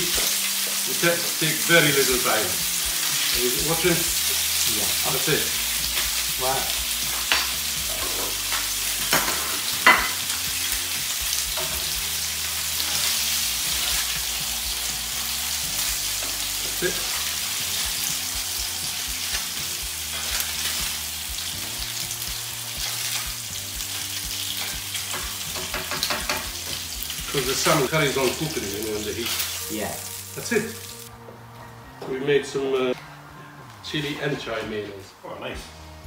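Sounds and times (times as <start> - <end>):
salmon sizzling on grill pan: 0.0 - 31.1.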